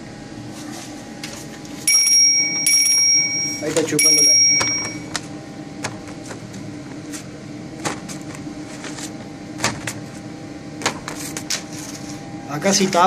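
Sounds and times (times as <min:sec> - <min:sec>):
suction fan humming: 0:00.0 - 0:13.0.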